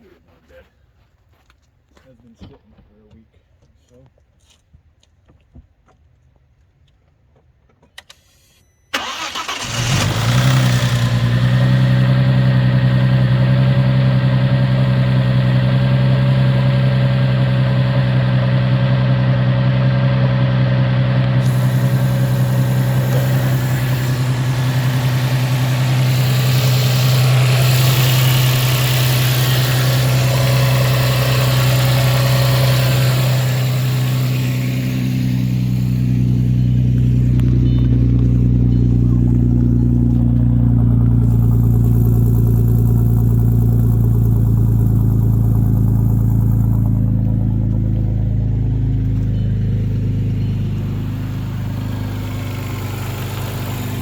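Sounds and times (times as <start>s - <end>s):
car engine idling: 9.0s - 54.0s.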